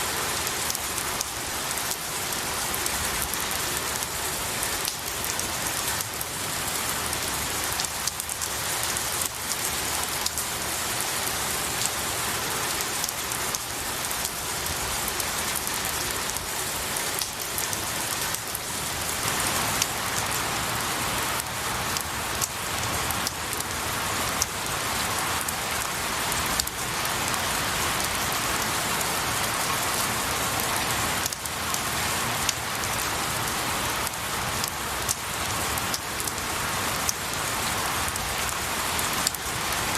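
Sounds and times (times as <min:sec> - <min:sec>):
rain falling on trees: 0:00.0 - 0:39.9.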